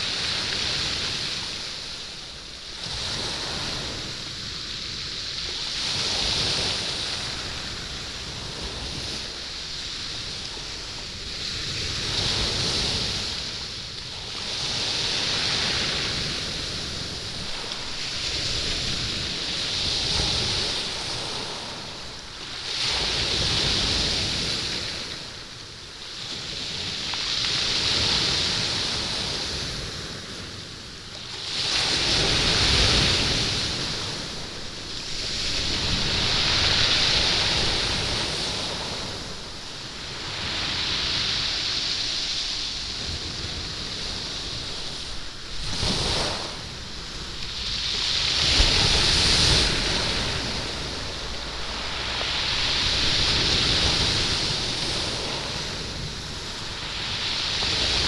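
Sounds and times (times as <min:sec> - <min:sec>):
waves washing on stone beach: 0:00.0 - 0:58.0.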